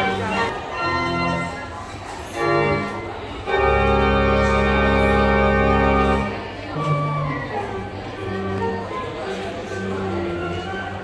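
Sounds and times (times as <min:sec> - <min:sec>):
organ music: 0:00.0 - 0:11.0.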